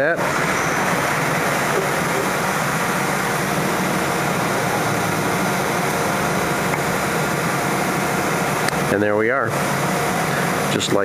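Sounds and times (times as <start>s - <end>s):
fan running: 0.0s - 11.0s.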